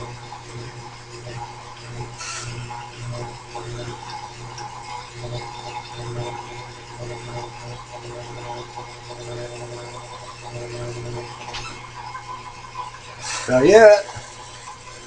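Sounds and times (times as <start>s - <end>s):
fixed machine tones: 0.0s - 14.9s
milling machine motor hum: 0.0s - 15.0s.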